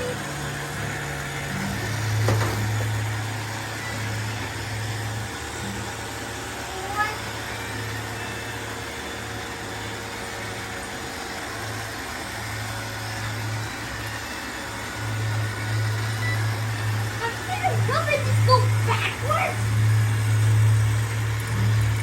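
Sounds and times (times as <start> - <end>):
robot vacuum cleaner running: 0.0 - 22.0.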